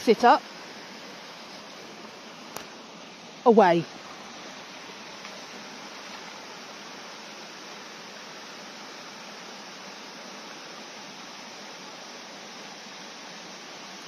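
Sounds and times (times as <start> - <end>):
stream running over stones: 0.0 - 14.0.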